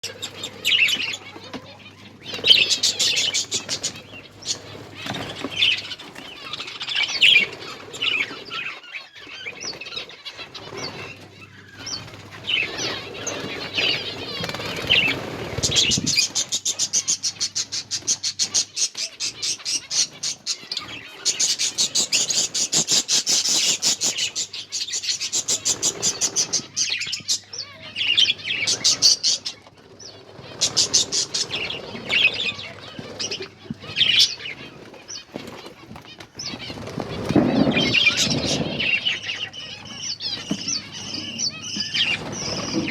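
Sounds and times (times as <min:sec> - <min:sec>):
finches chirping: 0:00.0 - 0:42.9.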